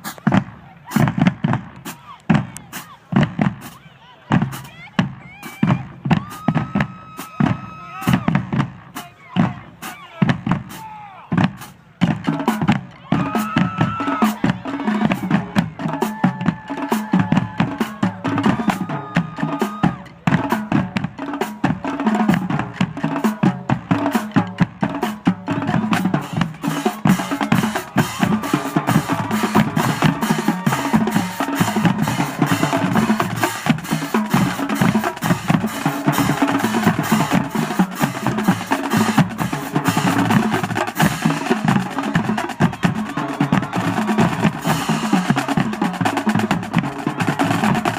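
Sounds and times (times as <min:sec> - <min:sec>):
snare and bass drums: 0:00.0 - 0:47.9.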